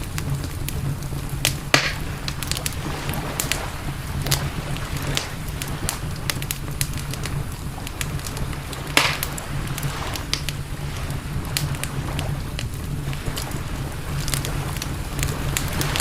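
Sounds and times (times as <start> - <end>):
campfire crackling and popping: 0.0 - 16.0
fire hissing: 0.0 - 16.0
low rumble: 0.0 - 16.0.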